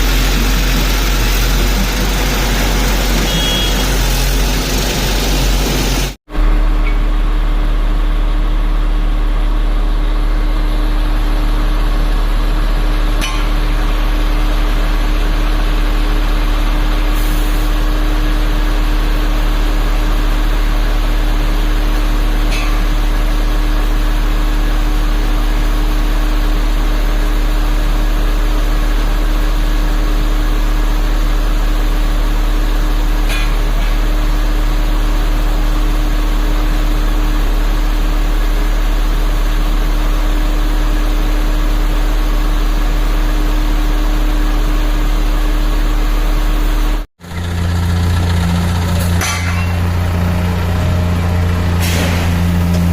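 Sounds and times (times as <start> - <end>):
excavator diesel engine drone: 0.0 - 52.9.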